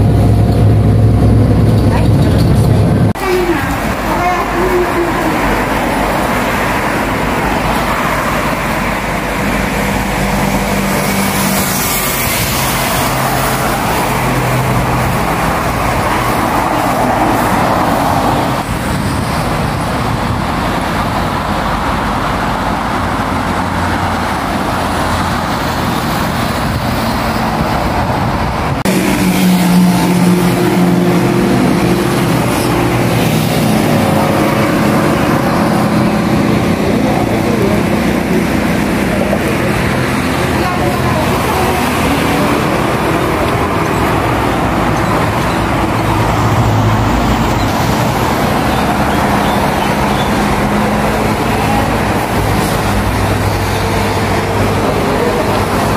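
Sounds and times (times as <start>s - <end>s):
expressway traffic: 0.0s - 55.9s
heavy engine hum: 0.0s - 55.9s.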